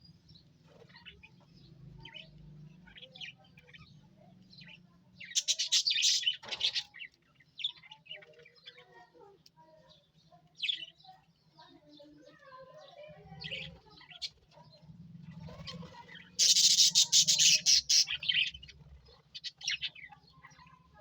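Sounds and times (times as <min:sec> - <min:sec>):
budgerigars chirping and chattering: 0:00.1 - 0:09.0, 0:13.0 - 0:21.0.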